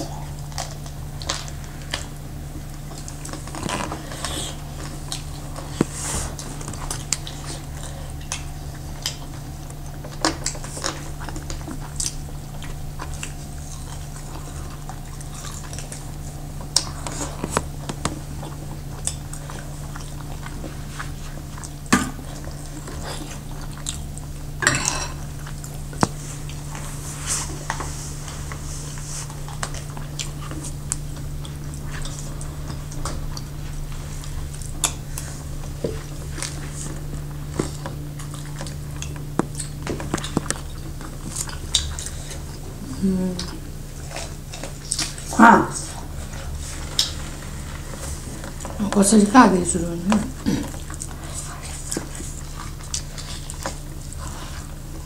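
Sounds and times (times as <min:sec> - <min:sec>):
low hum: 0:00.0 - 0:55.0
people chewing: 0:00.0 - 0:55.0.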